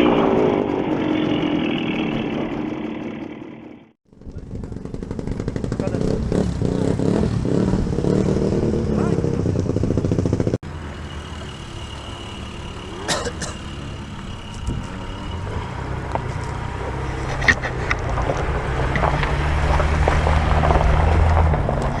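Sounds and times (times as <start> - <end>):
dirt bike engine running: 0.0 - 20.1.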